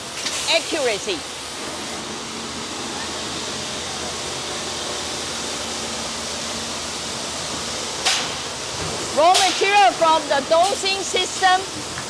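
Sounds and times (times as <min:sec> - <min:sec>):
machine hissing steadily: 0:00.0 - 0:12.0.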